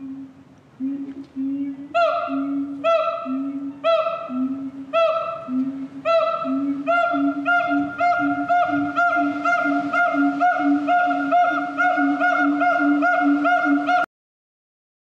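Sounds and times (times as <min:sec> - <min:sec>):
gibbons hooting calls: 0:01.4 - 0:14.1.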